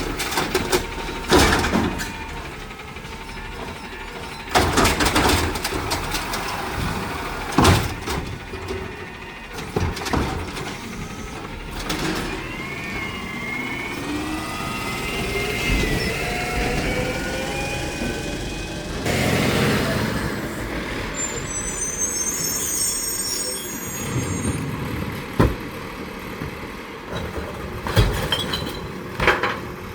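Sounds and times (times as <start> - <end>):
engine and hydraulic pump whine: 0.0 - 28.0.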